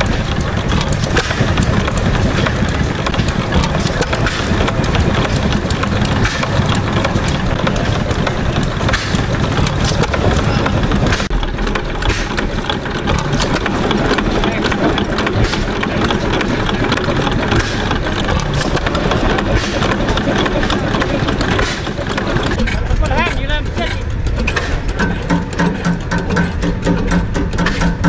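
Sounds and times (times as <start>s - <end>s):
engine parts clicking and knocking: 0.0s - 28.0s
stationary gas engines chugging: 0.0s - 28.0s.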